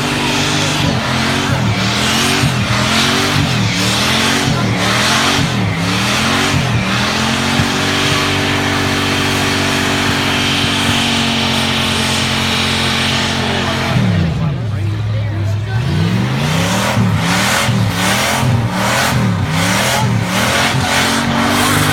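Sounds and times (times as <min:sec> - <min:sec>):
muscle car engine revving: 0:00.0 - 0:21.9.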